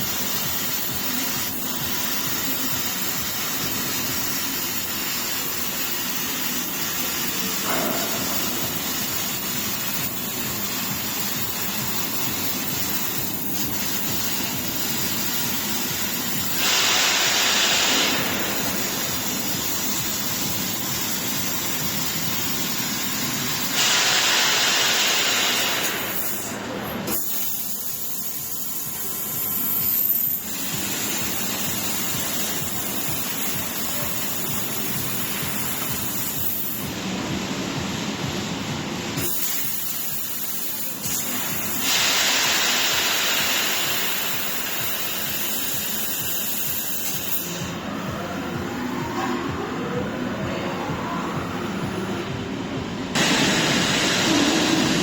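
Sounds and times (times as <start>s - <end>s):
laser cutter gas hissing: 0.0s - 37.2s, 38.7s - 48.5s, 53.1s - 55.0s.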